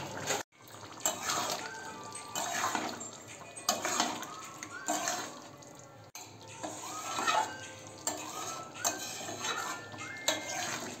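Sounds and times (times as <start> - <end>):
spatula scraping metal pan: 0.0 - 5.6, 6.2 - 11.0.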